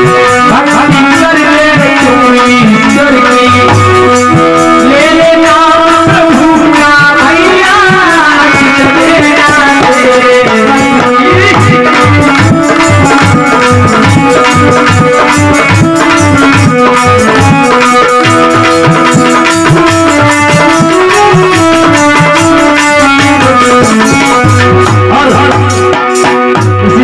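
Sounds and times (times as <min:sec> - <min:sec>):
man singing: 0:00.0 - 0:18.3, 0:19.5 - 0:27.0
hand drum beat: 0:00.0 - 0:27.0
held melody notes: 0:00.0 - 0:27.0.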